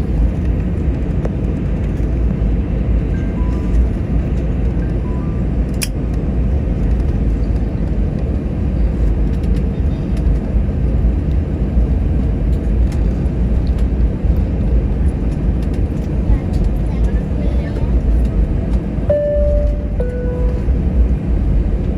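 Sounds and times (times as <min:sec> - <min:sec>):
aircraft cabin rumble: 0:00.0 - 0:21.9.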